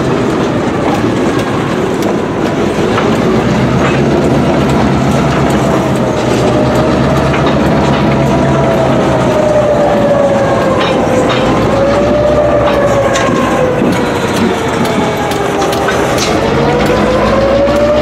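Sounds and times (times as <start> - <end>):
train wheels clacking over rails: 0.0 - 18.0.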